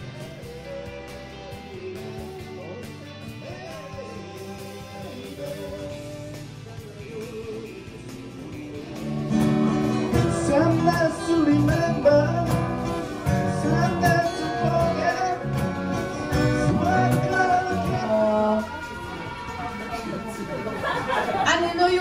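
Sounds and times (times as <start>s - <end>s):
person singing: 0.0s - 20.2s
guitar music: 0.0s - 22.0s.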